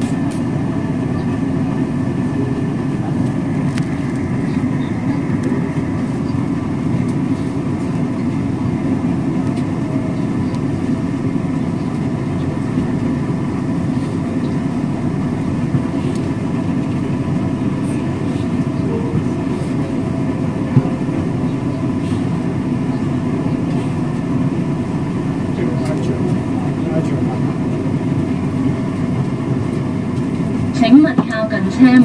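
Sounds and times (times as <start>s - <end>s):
train equipment hum and rumble: 0.0s - 32.0s.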